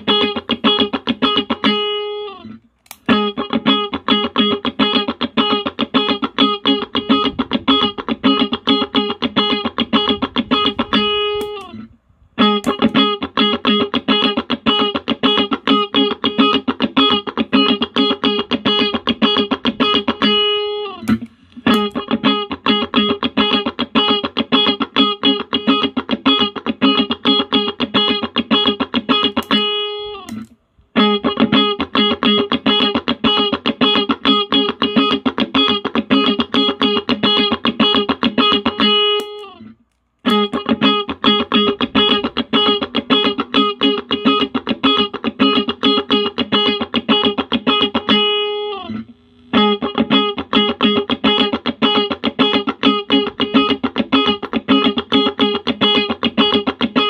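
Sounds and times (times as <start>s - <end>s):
electric guitar single notes: 0.0s - 57.0s.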